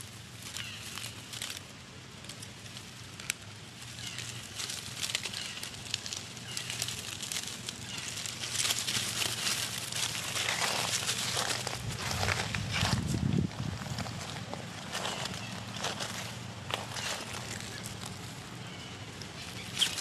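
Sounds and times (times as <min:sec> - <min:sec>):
dry leaves crackling underfoot: 0:00.0 - 0:20.0.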